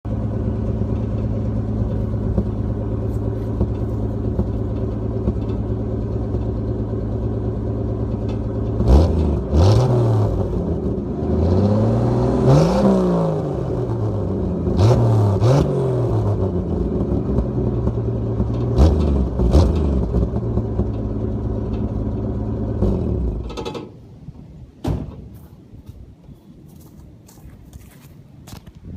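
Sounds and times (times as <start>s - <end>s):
car engine idling and revving: 0.0s - 24.6s.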